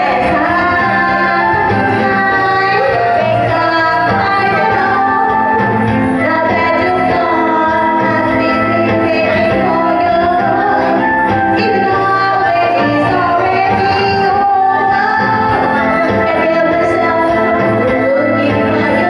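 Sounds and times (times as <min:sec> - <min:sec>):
loud backing track: 0:00.0 - 0:19.0
woman singing karaoke: 0:00.0 - 0:19.0.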